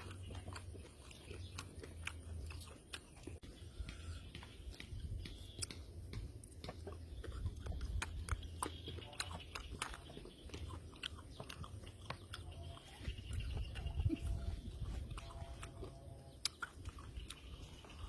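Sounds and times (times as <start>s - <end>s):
low steady hum: 0.0s - 18.0s
man chewing with wet mouth clicks: 0.0s - 18.0s.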